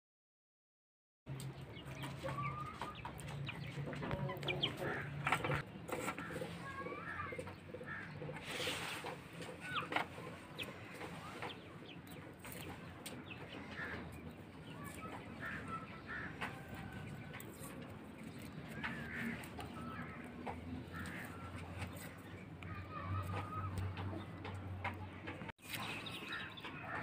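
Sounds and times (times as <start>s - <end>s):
chickens clucking: 1.3s - 27.0s.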